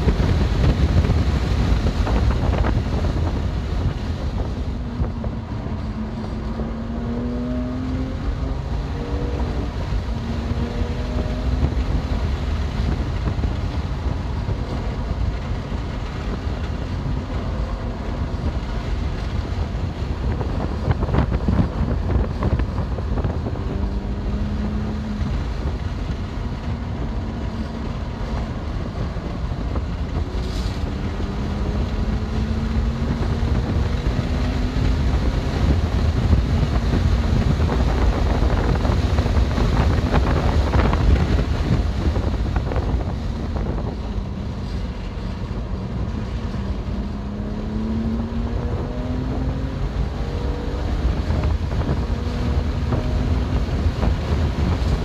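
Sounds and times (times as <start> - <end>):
faint car engine: 0.0 - 55.0
heavy wind noise: 0.0 - 55.0
road noise: 0.0 - 55.0.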